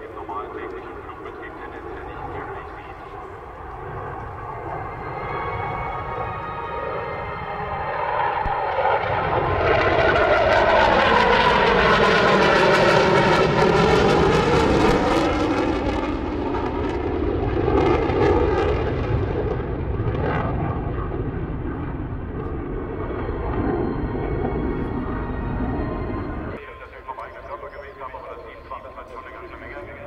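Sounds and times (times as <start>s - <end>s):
jet fighter engines roaring: 0.0s - 30.0s.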